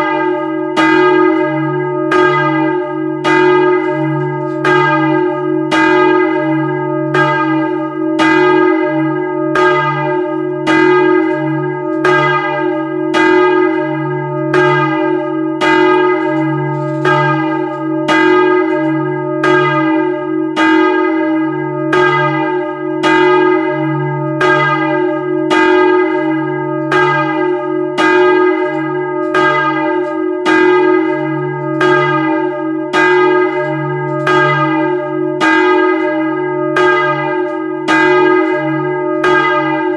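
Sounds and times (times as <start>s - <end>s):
church bell ringing: 0.0s - 39.9s
deep bell hum: 0.0s - 39.9s.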